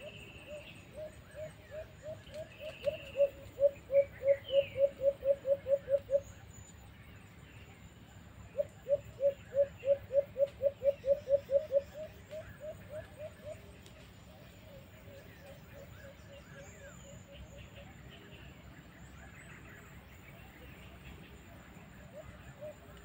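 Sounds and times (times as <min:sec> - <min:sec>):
dove-like cooing: 0:00.0 - 0:06.4, 0:08.4 - 0:18.3, 0:20.4 - 0:23.0
faint bird chirps: 0:00.0 - 0:23.0.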